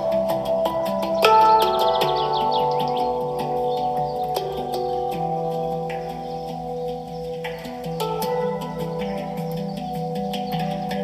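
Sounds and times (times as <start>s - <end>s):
bird chirps: 0.0s - 11.0s
hang drum music: 0.0s - 11.0s.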